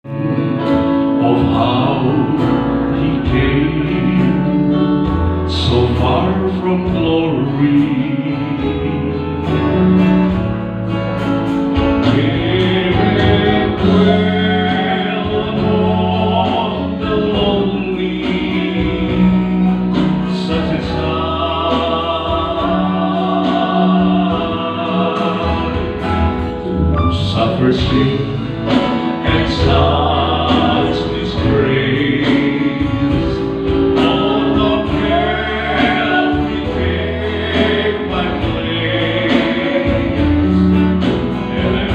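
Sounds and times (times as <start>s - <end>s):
instrumental accompaniment: 0.0s - 41.9s.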